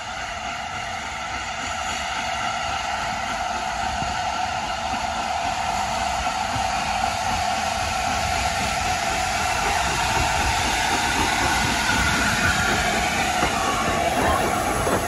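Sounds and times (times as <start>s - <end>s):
steam locomotive working: 0.0s - 15.0s.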